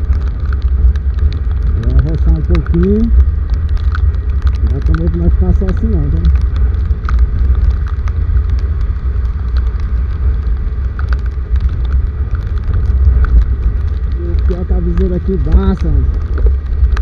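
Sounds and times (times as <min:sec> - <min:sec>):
raindrops ticking: 0:00.0 - 0:17.0
rainstorm rumble: 0:00.0 - 0:17.0.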